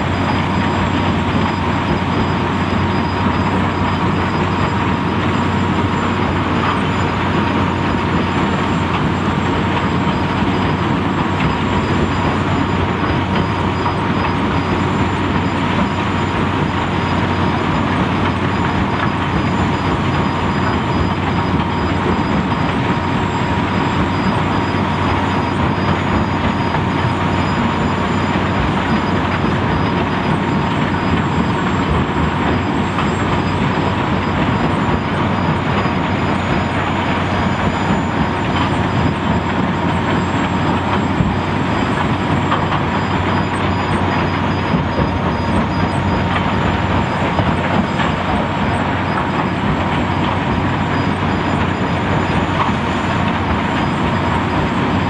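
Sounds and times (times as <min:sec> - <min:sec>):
diesel engines running: 0:00.0 - 0:55.0
steady mechanical whine: 0:00.0 - 0:55.0.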